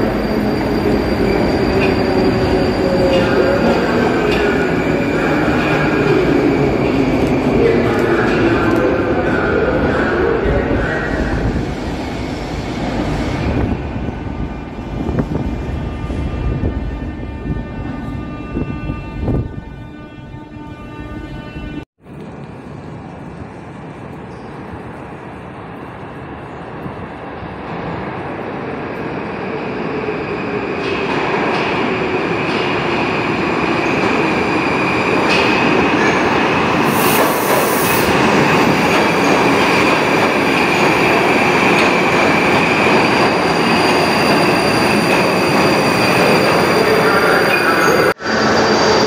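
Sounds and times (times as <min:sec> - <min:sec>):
metro train rail noise: 0:00.0 - 0:49.0.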